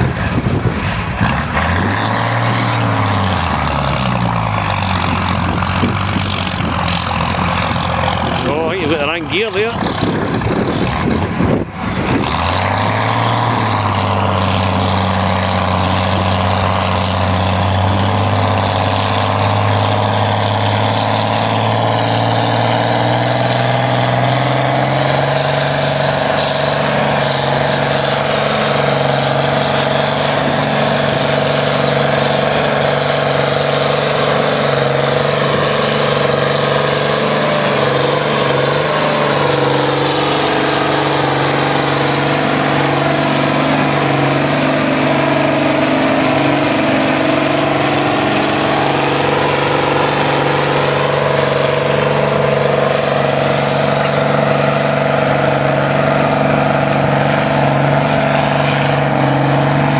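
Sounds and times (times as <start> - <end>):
diesel tractor engine under load: 0.0 - 59.9.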